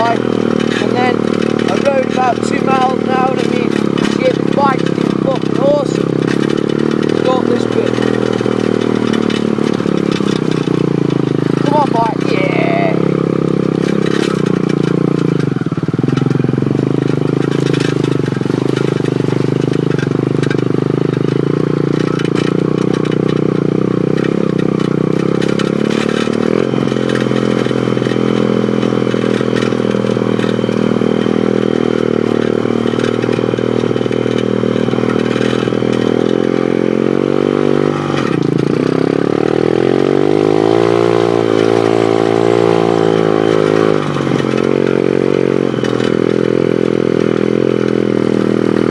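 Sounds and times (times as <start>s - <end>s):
motorbike engine running hard: 0.0s - 48.9s.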